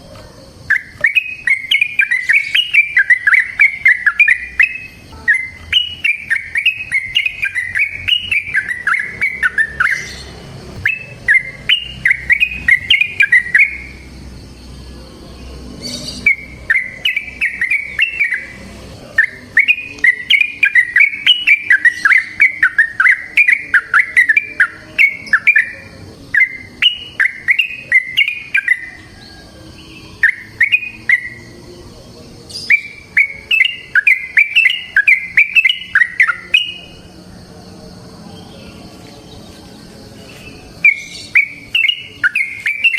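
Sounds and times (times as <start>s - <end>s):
bulbul singing whistled notes: 0.0s - 14.9s, 15.6s - 37.5s, 38.4s - 42.9s.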